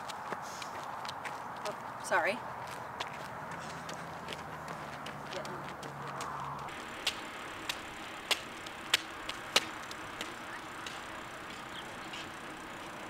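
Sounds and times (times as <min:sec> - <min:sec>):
footsteps on rubber track: 0:00.0 - 0:12.4
steady outdoor hiss: 0:00.0 - 0:13.0.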